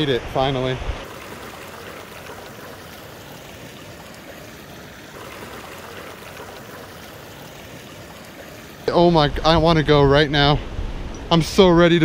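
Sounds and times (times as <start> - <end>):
stream running over rocks: 0.0 - 10.5.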